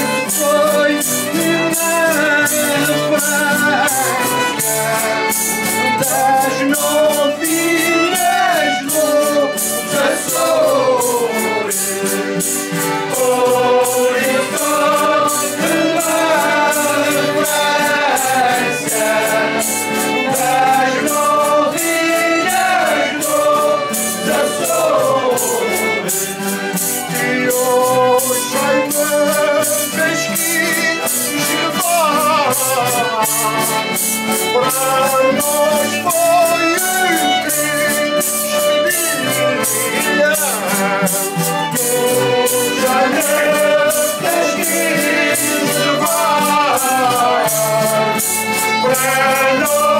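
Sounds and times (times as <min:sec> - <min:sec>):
folk group singing in chorus: 0:00.0 - 0:49.9
percussive beat: 0:00.0 - 0:49.9.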